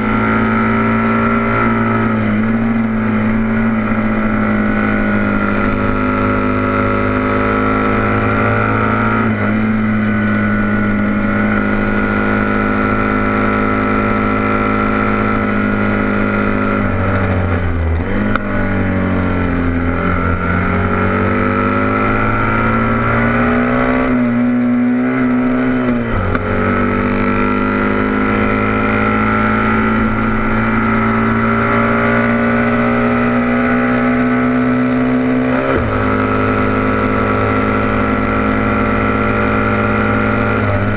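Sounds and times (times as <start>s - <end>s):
racing motorcycle engine: 0.0s - 40.9s.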